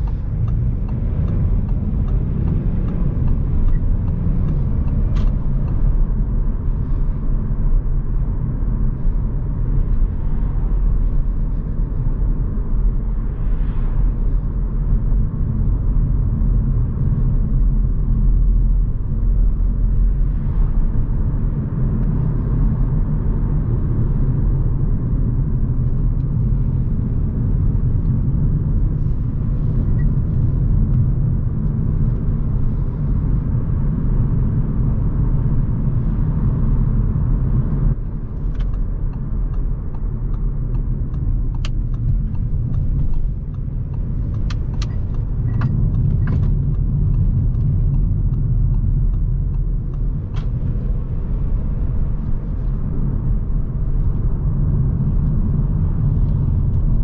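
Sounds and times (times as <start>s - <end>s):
car engine drone inside cabin: 0.0s - 57.0s
tyre road rumble: 0.0s - 57.0s.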